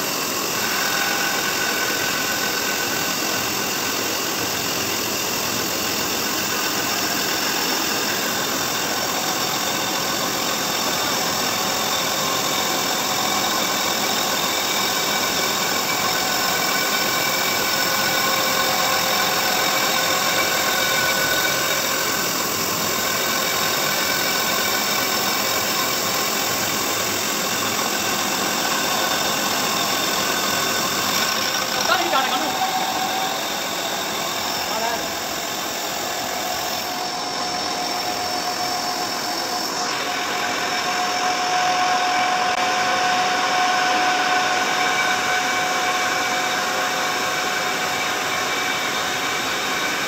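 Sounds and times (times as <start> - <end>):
grinding wheel grinding metal: 0.0 - 50.0
motors humming: 0.0 - 50.0.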